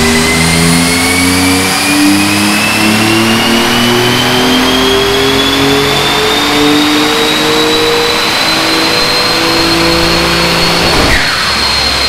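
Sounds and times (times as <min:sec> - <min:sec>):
engine revving at full throttle: 0:00.0 - 0:12.0
thin high turbo whine: 0:00.0 - 0:12.0.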